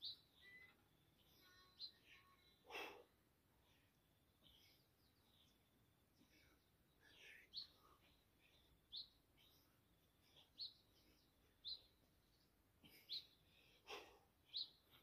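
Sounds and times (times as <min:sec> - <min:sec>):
bird chirping: 0:00.0 - 0:03.0, 0:03.6 - 0:13.8, 0:14.4 - 0:15.0.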